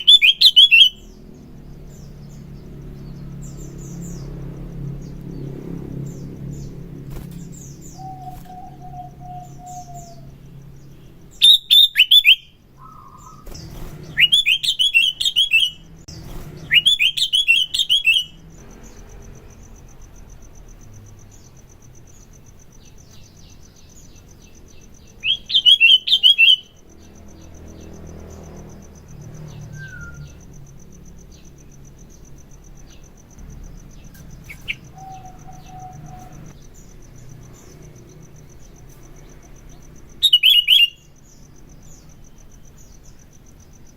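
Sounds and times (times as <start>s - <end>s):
bulbul singing: 0.0s - 43.9s.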